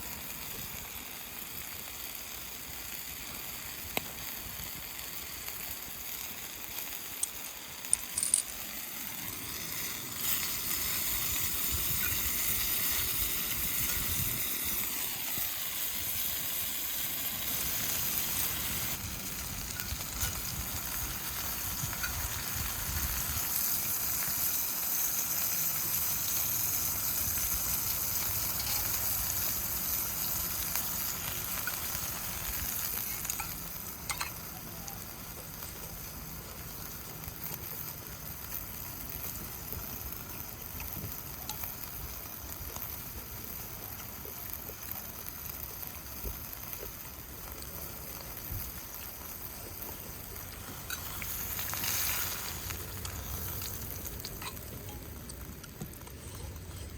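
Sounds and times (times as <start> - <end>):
food sizzling in hot oil: 0.0 - 56.9.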